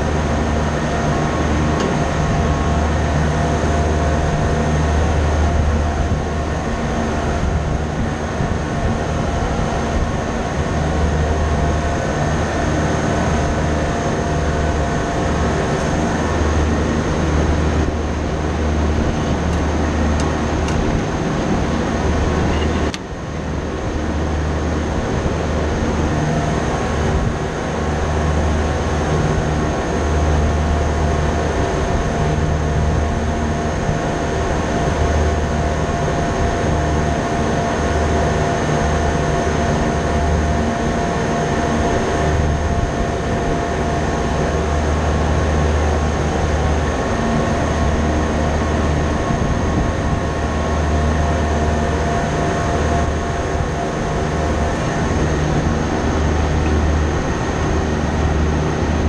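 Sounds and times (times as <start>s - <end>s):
machinery drone with hiss: 0.0s - 59.0s
pulsing low rumble: 0.0s - 59.0s.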